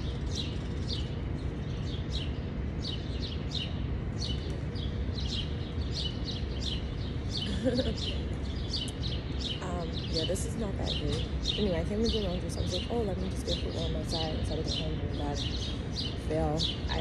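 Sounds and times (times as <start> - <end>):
low background rumble: 0.0 - 17.0
small birds chirping: 0.0 - 17.0.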